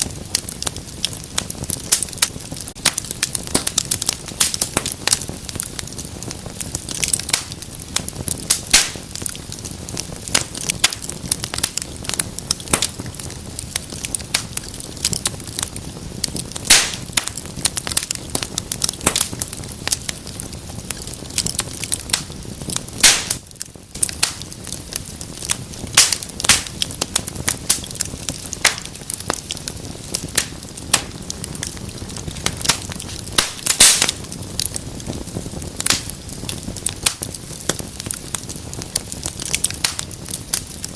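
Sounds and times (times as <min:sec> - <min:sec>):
hiss of flames: 0:00.0 - 0:40.9
wood fire crackling and popping: 0:00.0 - 0:40.9.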